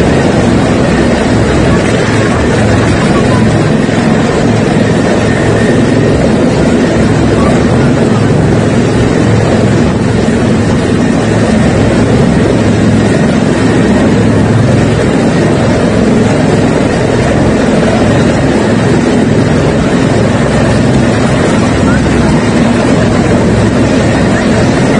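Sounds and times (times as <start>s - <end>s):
helicopter hovering overhead: 0.0s - 24.9s.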